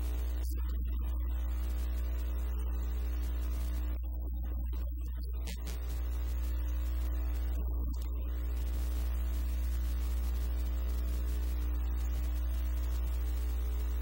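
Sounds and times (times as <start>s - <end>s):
background hiss: 0.0s - 4.0s, 5.0s - 14.0s
electrical mains hum: 0.0s - 14.0s.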